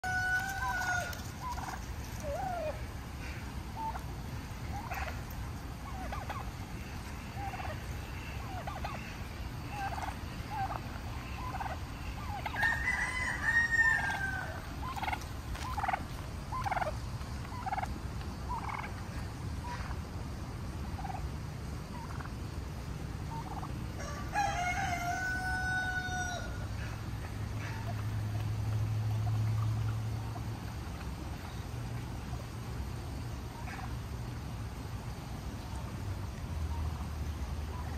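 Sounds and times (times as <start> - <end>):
turkey clucking and calling: 0.0 - 20.0, 20.9 - 21.3, 21.9 - 35.9, 36.7 - 37.9.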